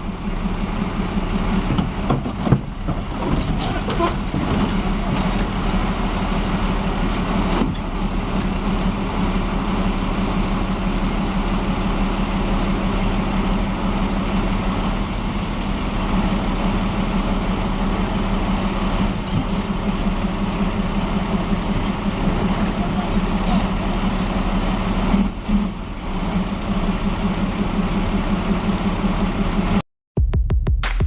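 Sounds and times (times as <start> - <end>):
heavy diesel engine running: 0.0 - 29.8.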